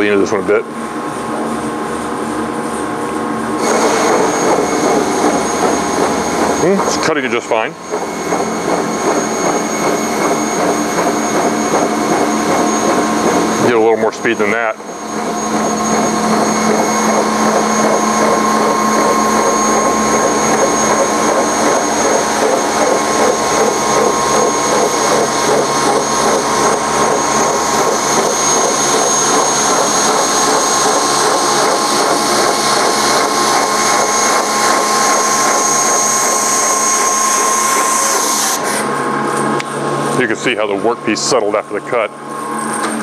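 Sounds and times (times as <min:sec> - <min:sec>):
high saw whine: 0:01.4 - 0:43.0
bandsaw cutting: 0:03.6 - 0:38.9.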